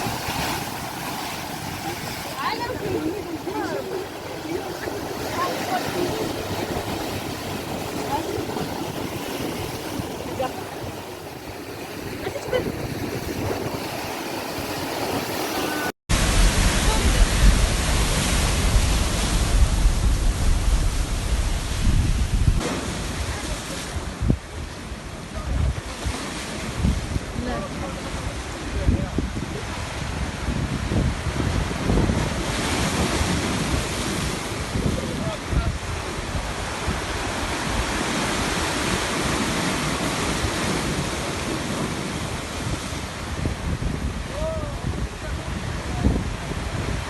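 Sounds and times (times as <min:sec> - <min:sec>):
waves washing: 0:00.0 - 0:47.0
wind rumble on microphone: 0:00.0 - 0:47.0.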